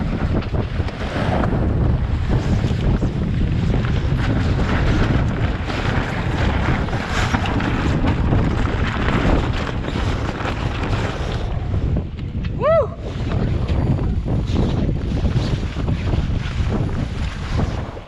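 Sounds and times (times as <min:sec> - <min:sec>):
sailcloth flapping and rustling: 0:00.0 - 0:12.4, 0:13.1 - 0:18.0
wind blowing on microphone: 0:00.0 - 0:18.0.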